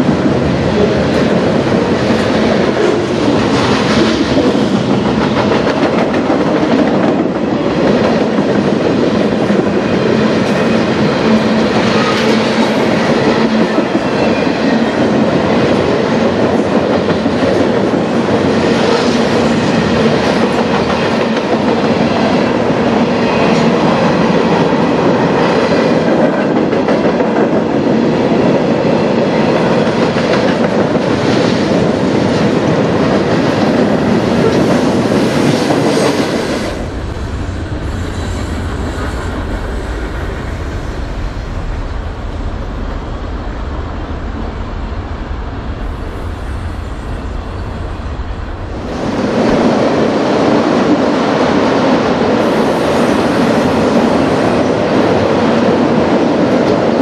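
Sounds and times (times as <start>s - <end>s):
freight train wheels rumbling and rattling: 0.0s - 57.0s.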